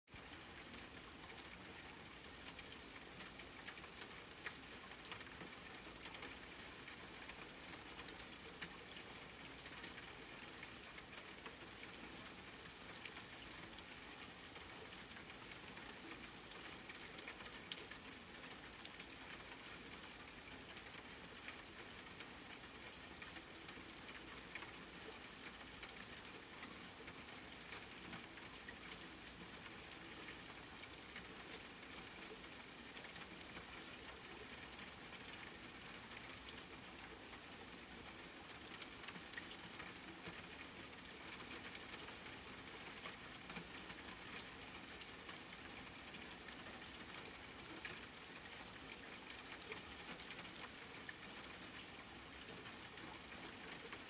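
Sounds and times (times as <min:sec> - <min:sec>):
raindrops ticking on a surface: 0:00.1 - 0:54.0
steady rain hiss: 0:00.1 - 0:54.0.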